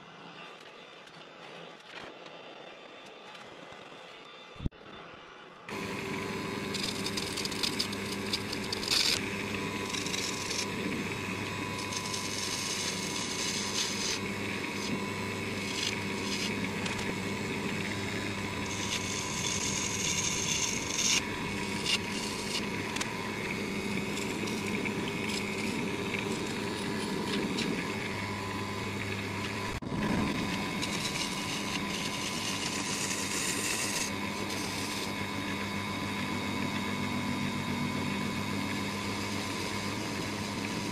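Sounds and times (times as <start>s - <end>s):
lathe motor hum: 5.7s - 40.9s
turning tool scraping wax: 5.7s - 40.9s.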